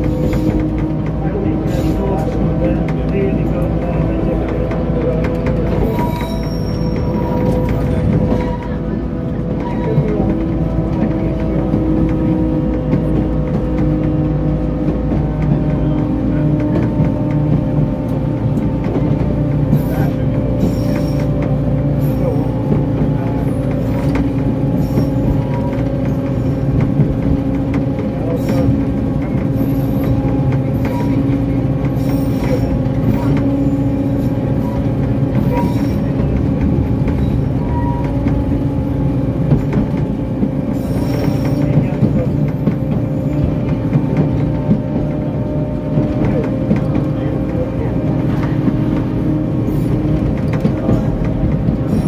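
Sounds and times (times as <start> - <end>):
knocks and rattles: 0.0 - 52.0
locomotive engine hum: 0.0 - 52.0
train rolling rumble: 0.0 - 52.0.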